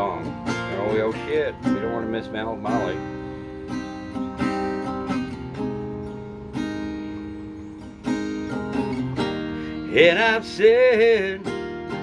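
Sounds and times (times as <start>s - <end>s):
guitar chords strummed slowly: 0.0s - 12.0s.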